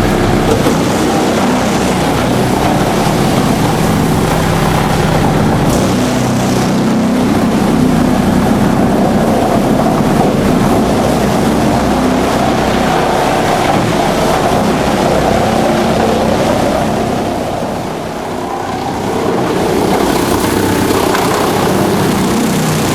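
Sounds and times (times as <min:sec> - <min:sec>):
wood chipper running: 0:00.0 - 0:22.9.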